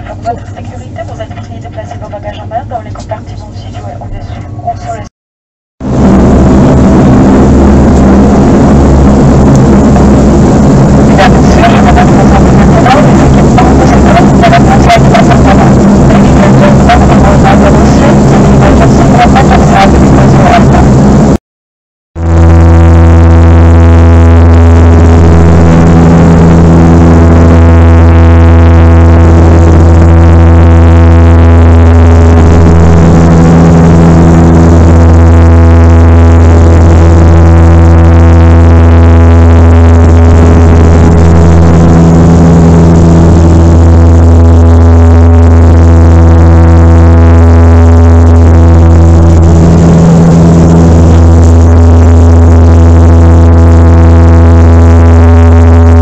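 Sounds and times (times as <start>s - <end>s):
propeller aircraft cabin drone: 5.8s - 21.4s, 22.2s - 56.0s.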